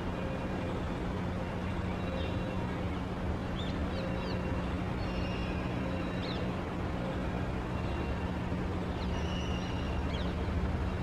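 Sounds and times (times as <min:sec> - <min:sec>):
low mechanical hum and rumble: 0:00.0 - 0:11.0
faint bird chirps: 0:00.1 - 0:06.5, 0:07.7 - 0:10.4.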